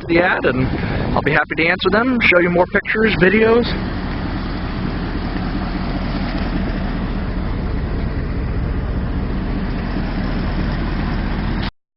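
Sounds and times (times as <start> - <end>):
truck engine running steadily: 0.0 - 11.7.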